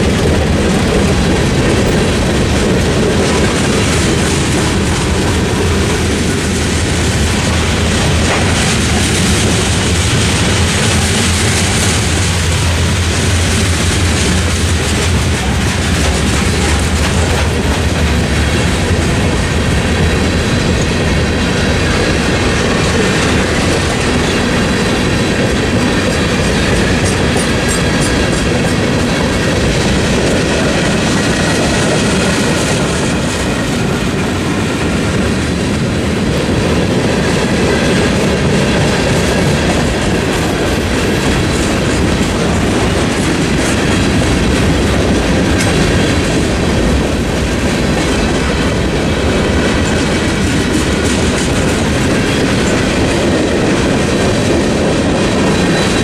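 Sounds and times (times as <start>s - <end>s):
train wheels clacking over rail joints: 0.0s - 56.0s.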